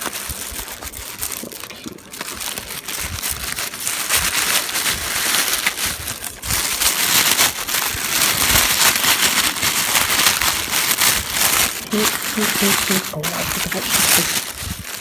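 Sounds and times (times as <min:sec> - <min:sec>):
tissue paper crinkling: 0:00.0 - 0:15.0.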